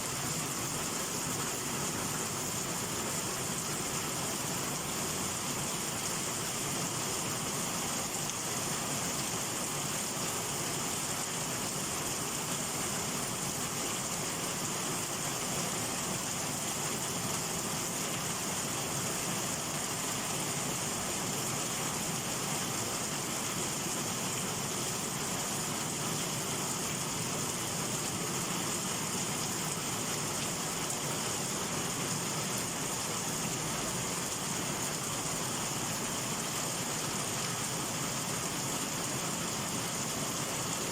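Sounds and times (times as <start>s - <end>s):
heavy rain falling: 0.1s - 40.9s.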